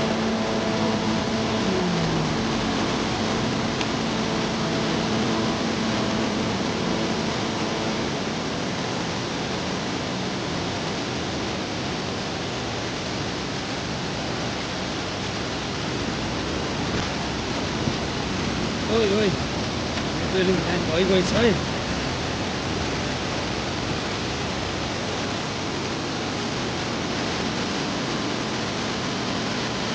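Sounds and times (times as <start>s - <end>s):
river rushing: 0.0s - 29.9s.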